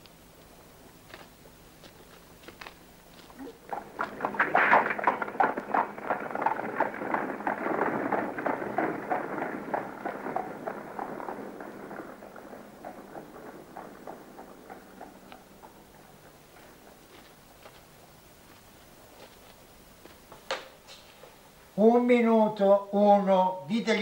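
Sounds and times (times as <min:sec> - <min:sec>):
horses hooves clattering: 0:00.9 - 0:21.6.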